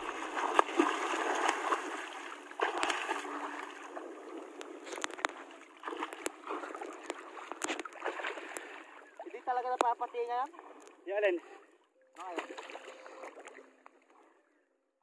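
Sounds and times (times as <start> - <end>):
water splashing and sloshing: 0.0 - 14.5.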